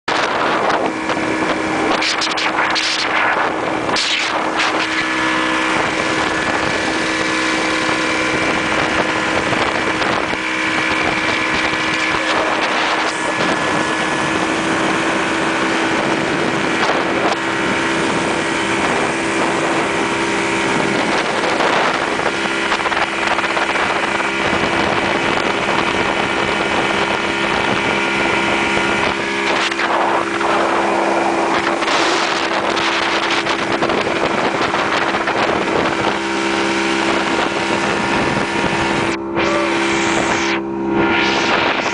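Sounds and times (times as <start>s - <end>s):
motorboat engine running: 0.0s - 41.9s
wind buffeting microphone: 0.1s - 41.9s.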